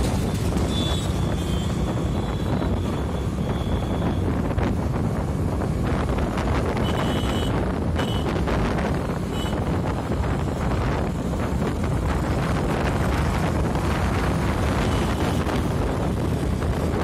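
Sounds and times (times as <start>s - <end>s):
motorcycle ride rumble: 0.0s - 17.0s
road traffic passing: 0.0s - 17.0s
wind buffeting microphone: 0.0s - 17.0s.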